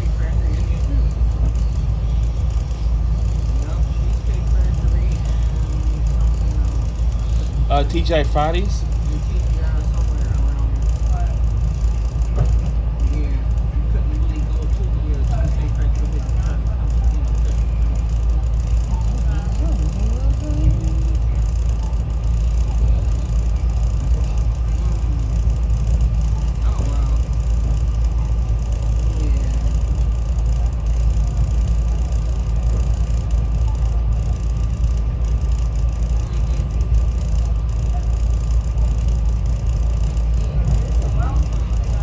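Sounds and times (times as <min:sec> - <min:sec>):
faint steady whine: 0:00.0 - 0:42.0
train low rumble: 0:00.0 - 0:42.0.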